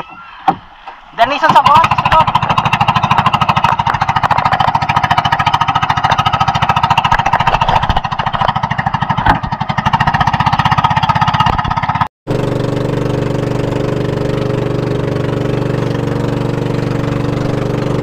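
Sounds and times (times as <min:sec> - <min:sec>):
boat engine puttering: 0:00.0 - 0:18.0.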